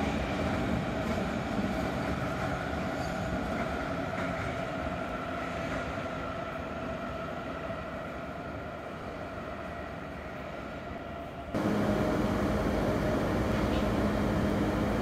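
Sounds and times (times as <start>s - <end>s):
train wheels rumbling on track: 0.0s - 10.6s, 11.6s - 15.0s
train whine: 0.0s - 15.0s.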